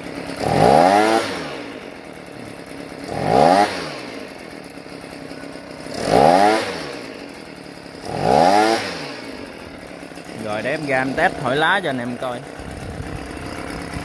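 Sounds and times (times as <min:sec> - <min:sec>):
leaf blower engine revving: 0:00.0 - 0:14.0.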